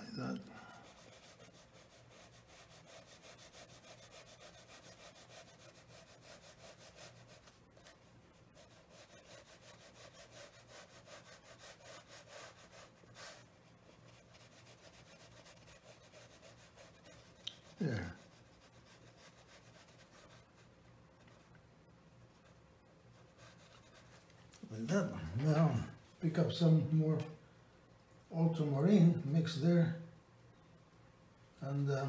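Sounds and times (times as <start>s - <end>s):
brush scratching on paper: 0.0s - 21.5s, 22.2s - 26.7s
low steady hum: 0.0s - 32.0s.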